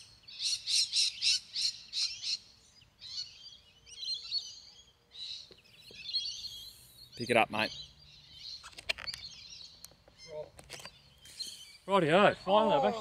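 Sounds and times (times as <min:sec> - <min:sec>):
bird sharp high calls: 0:00.0 - 0:13.0
birds twittering: 0:00.0 - 0:13.0.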